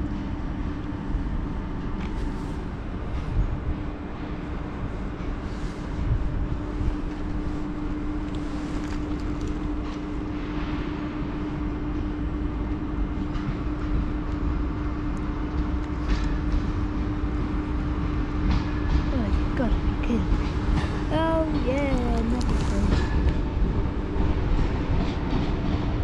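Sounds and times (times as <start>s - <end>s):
electric locomotive hum: 0.0s - 26.0s
wheels rumbling on rail: 0.0s - 26.0s.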